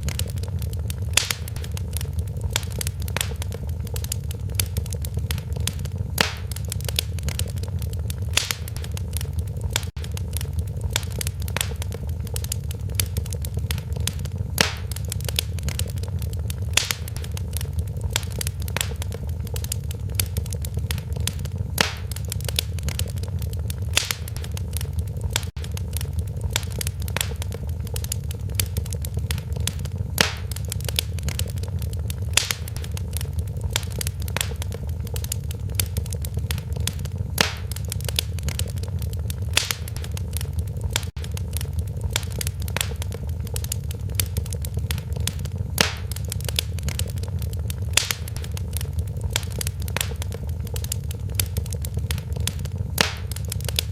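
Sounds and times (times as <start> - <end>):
low rumble of flames: 0.0 - 53.9
sharp fire pops: 0.0 - 53.9
wood fire crackling: 0.0 - 53.9.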